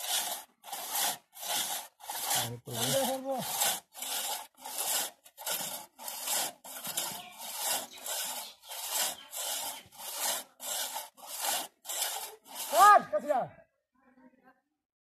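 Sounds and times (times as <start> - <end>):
crosscut saw rasping: 0.0 - 13.4.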